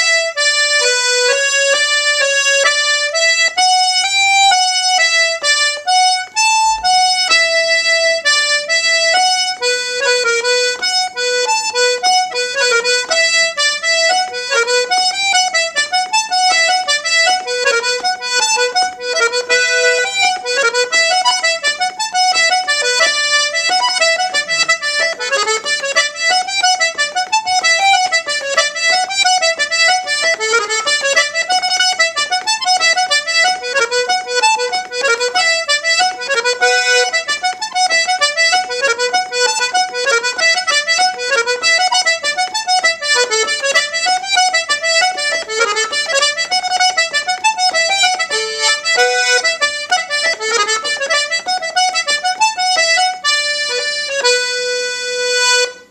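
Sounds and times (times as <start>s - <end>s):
button accordion playing a reel: 0.0s - 55.9s.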